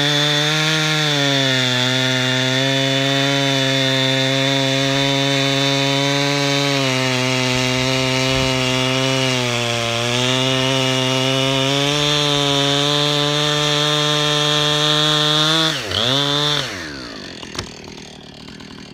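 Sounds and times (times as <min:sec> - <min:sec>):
chainsaw cutting a log: 0:00.0 - 0:18.9.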